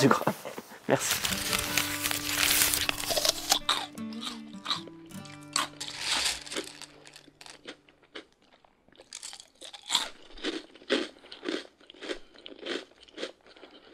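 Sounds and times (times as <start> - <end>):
person chewing crunchy food: 1.1 - 13.9.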